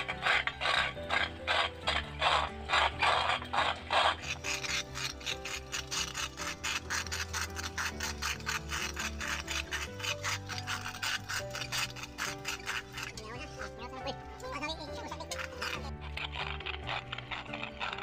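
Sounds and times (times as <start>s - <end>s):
background music: 0.0s - 18.0s
hand mill grinding peanuts: 0.0s - 18.0s.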